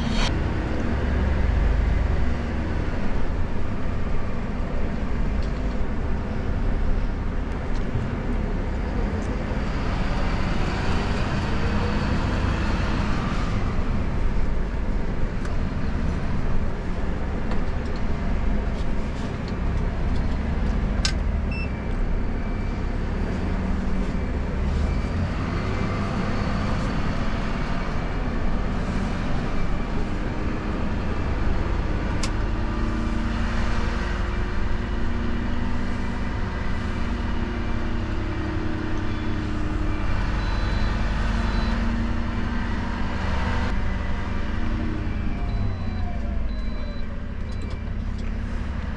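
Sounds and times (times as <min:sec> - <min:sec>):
diesel engine rumble: 0:00.0 - 0:48.9
road noise: 0:00.0 - 0:48.9.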